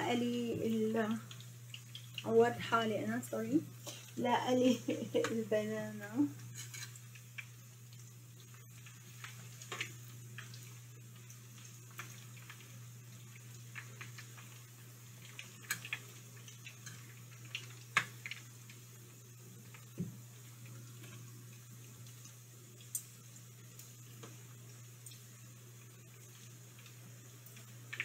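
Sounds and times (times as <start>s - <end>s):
plantain sizzling in oil: 0.0s - 28.0s
steady low hum: 0.0s - 28.0s.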